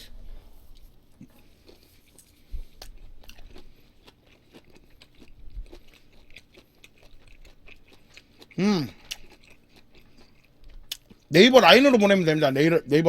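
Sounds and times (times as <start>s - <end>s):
person chewing food: 0.6s - 11.3s.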